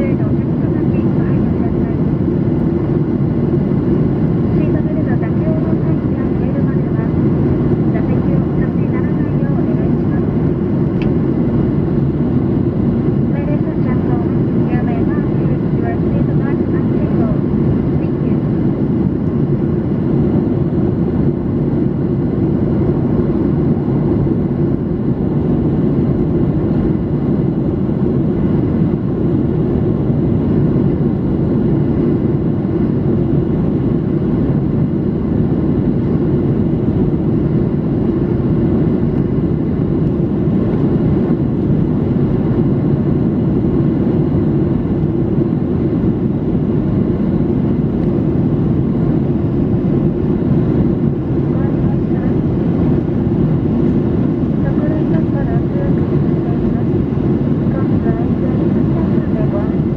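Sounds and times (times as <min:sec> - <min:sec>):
airflow rushing over fuselage: 0:00.0 - 0:59.9
jet engines droning: 0:00.0 - 0:59.9.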